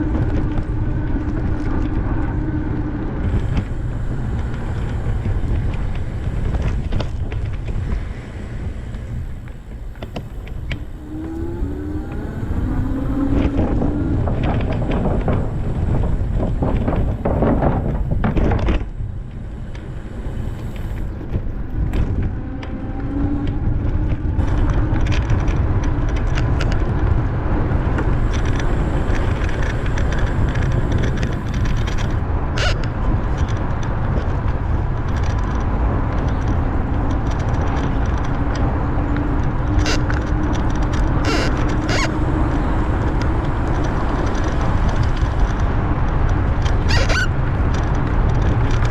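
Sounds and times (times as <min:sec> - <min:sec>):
faint hum: 0:00.0 - 0:45.6
bicycle clicks and rattles: 0:00.0 - 0:48.9
bicycle rolling on pavement: 0:00.0 - 0:48.9.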